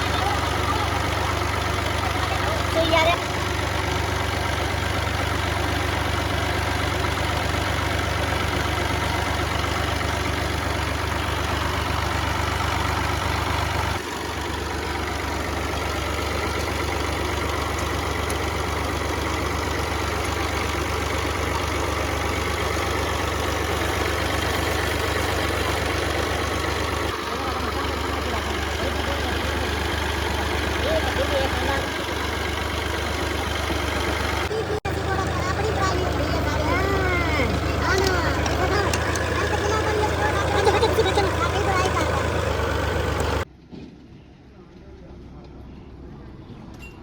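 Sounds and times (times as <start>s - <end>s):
tractor engine idling: 0.0s - 43.5s.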